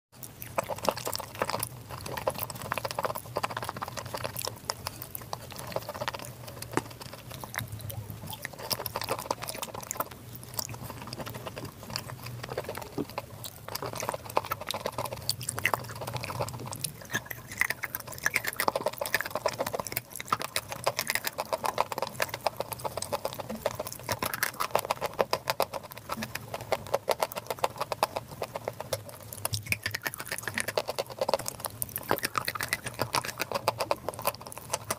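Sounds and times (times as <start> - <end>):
wet chewing of squelching paste: 0.1 - 34.9.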